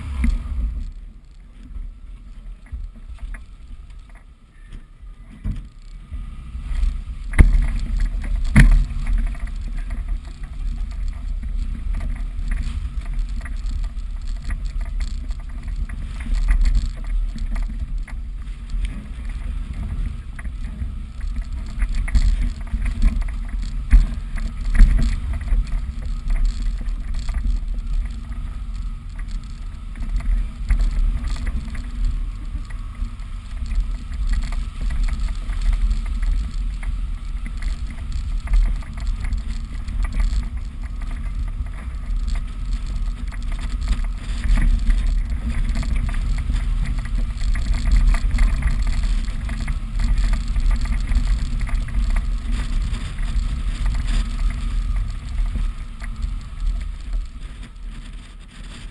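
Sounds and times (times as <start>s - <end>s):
rattles over stones: 0.0s - 58.9s
vehicle engine and tyres rumbling: 0.0s - 58.9s.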